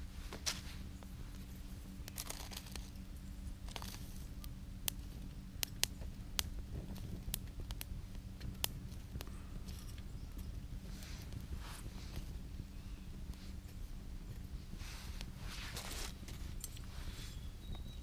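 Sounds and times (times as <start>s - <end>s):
wood fire crackling and popping: 0.0s - 17.0s
steady low rumble: 0.0s - 18.0s.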